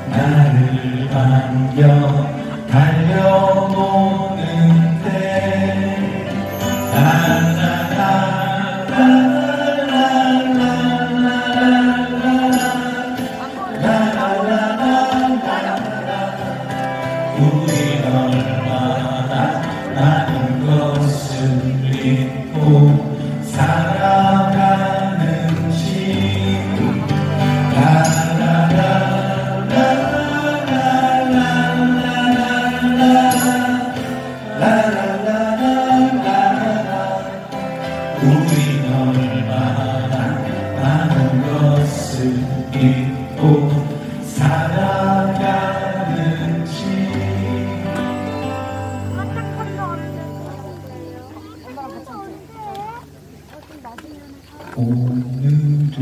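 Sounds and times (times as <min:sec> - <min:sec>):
person singing: 0:00.0 - 0:51.8
acoustic guitars: 0:00.0 - 0:56.0
keyboard: 0:00.0 - 0:56.0.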